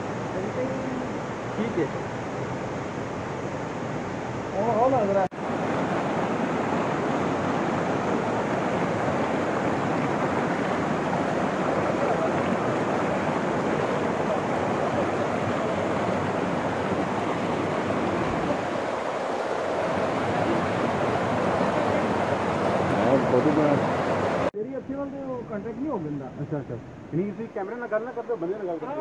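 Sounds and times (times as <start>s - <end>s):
stream rushing over rocks: 0.0s - 24.5s.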